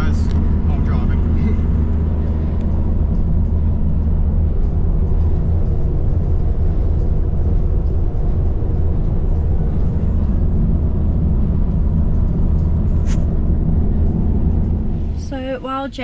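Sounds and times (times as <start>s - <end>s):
vehicle road and engine rumble: 0.0s - 16.0s.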